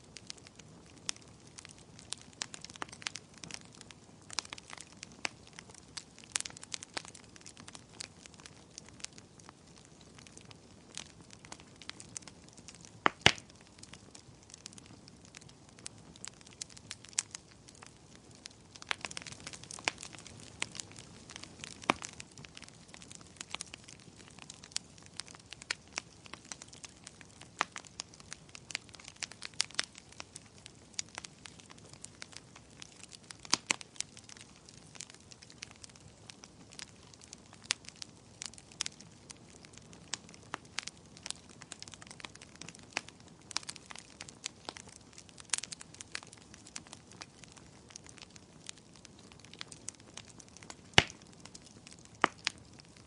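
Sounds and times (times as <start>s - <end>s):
fire pops and snaps: 0.0s - 53.0s
wood fire crackling: 0.0s - 53.0s.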